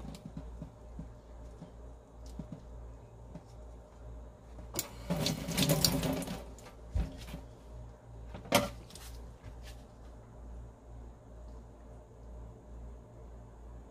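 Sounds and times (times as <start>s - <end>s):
low hum: 0.0s - 13.9s.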